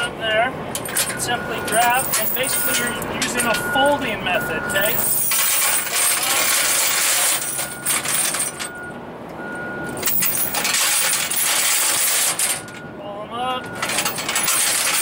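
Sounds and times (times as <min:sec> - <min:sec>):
metal chains clattering: 0:00.8 - 0:08.9, 0:09.9 - 0:12.8, 0:13.7 - 0:15.0.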